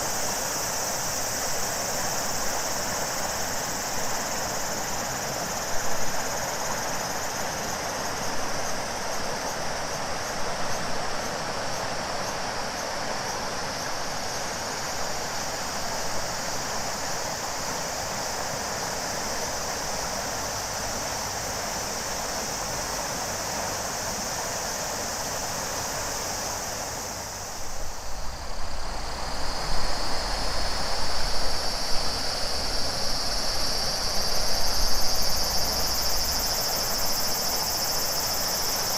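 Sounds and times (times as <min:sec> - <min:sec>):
cicadas shrilling: 0:00.0 - 0:38.9
river flowing: 0:00.0 - 0:38.9.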